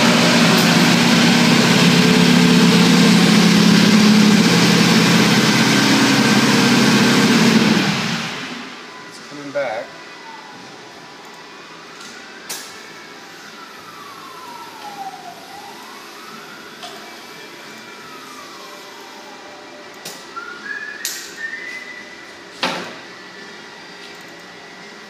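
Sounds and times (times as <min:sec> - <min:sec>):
siren wailing: 0:00.0 - 0:25.0.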